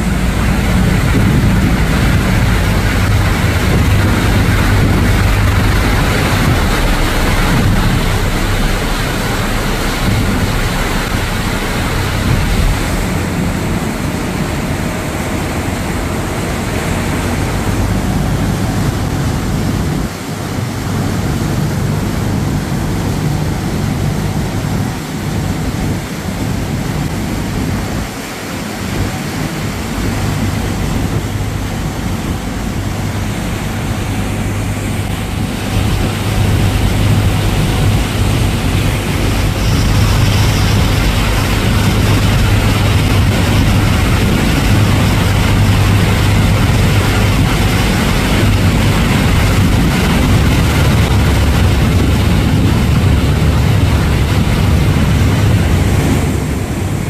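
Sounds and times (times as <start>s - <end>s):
churning wake rushing: 0.0s - 57.0s
ferry engine drone: 0.0s - 57.0s
wind on microphone: 0.0s - 57.0s.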